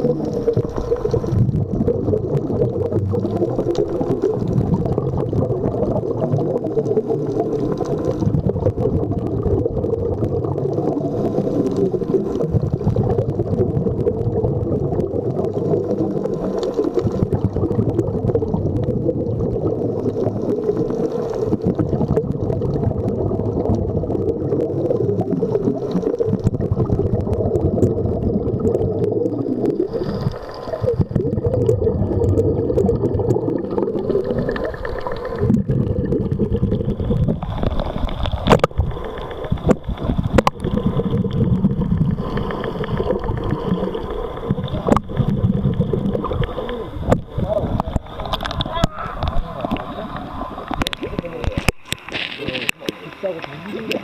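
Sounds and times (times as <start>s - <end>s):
underwater rumble and gurgling: 0.0s - 54.0s.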